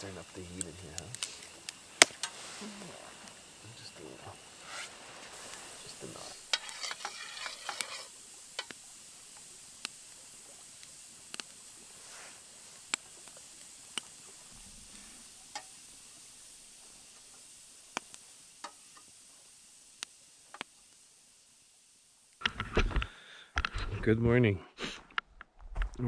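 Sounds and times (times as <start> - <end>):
campfire crackling and popping: 0.0 - 24.1.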